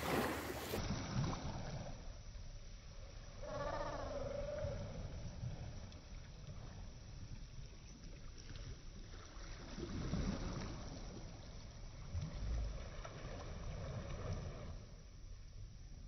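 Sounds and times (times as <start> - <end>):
small waves lapping on shore: 0.0 - 3.3, 5.0 - 14.9
wind rumbling on microphone: 0.0 - 16.0.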